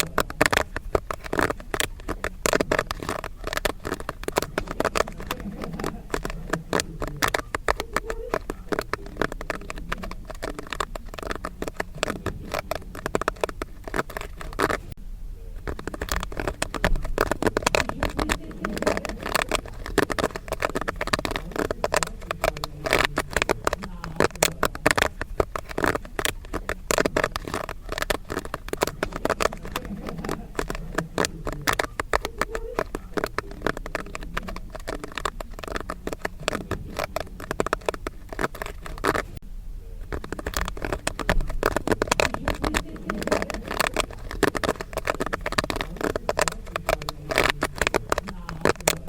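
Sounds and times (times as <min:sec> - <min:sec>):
popcorn popping: 0:00.0 - 0:49.0.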